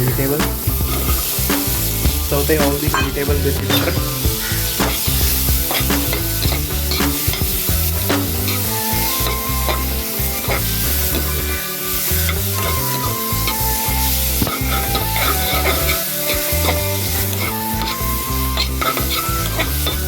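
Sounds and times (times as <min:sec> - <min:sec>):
vegetables sizzling in a pan: 0:00.0 - 0:20.0
utensil scraping a pan: 0:00.3 - 0:20.0.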